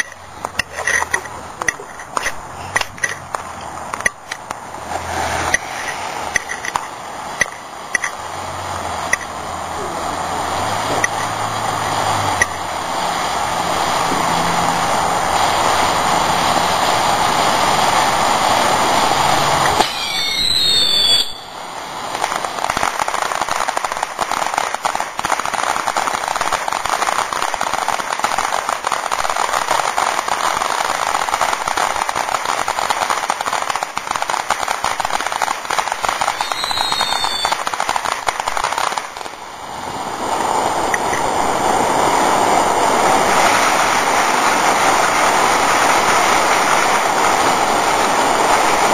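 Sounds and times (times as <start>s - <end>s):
gliding firework whistles: 0.0s - 8.2s, 14.0s - 47.1s
firework crackling: 0.0s - 48.9s
firework fountain hissing: 0.0s - 48.9s.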